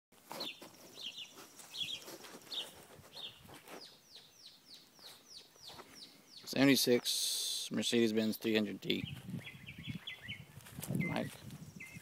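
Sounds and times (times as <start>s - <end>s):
bird singing: 0.4s - 12.0s.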